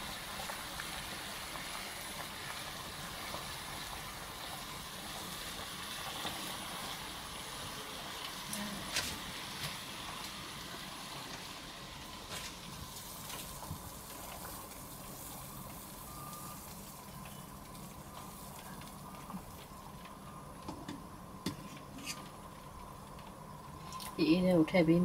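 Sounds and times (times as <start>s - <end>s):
water boiling in a pot: 0.0s - 25.0s.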